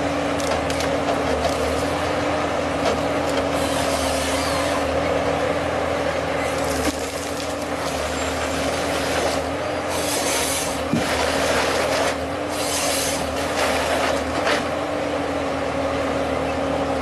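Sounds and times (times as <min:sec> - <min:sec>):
harvester engine running: 0:00.0 - 0:17.0.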